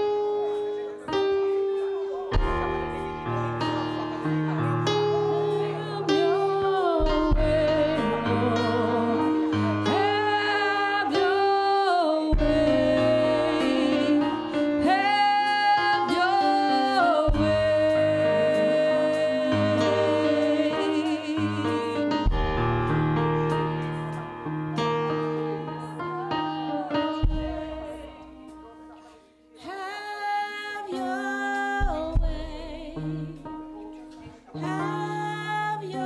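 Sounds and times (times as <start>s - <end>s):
keyboard chords: 0.0s - 36.0s
person singing gospel: 0.0s - 36.0s.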